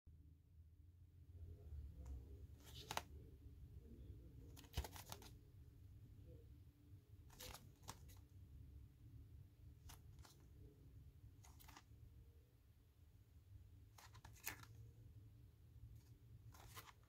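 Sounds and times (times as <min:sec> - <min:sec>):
faint low hum: 0:00.1 - 0:17.0.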